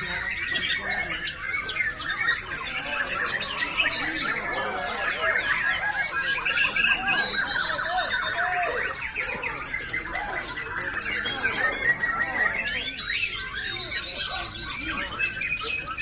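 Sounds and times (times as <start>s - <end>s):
other songbirds singing: 0.0s - 16.0s
songbird singing trills and whistles: 0.0s - 16.0s.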